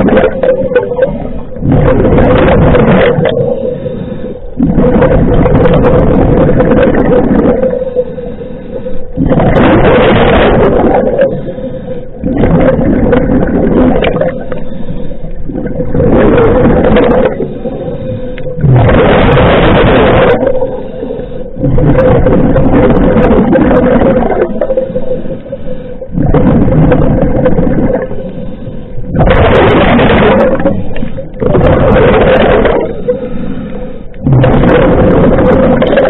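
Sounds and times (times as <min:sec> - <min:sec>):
diver breathing bubbles: 0:00.0 - 0:36.0
steady hum: 0:00.0 - 0:36.0.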